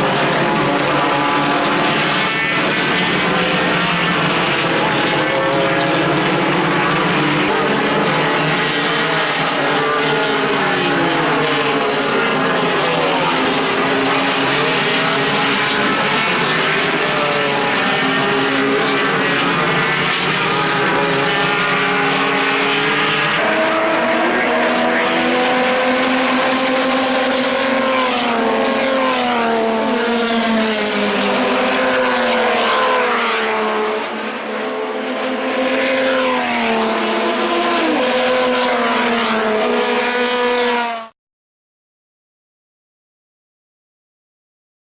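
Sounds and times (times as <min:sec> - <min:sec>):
race car engines accelerating: 0:00.0 - 0:41.1.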